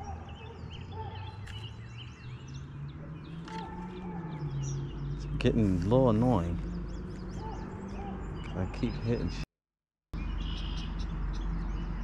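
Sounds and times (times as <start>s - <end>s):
songbirds chirping: 0.0s - 9.5s, 10.2s - 12.0s.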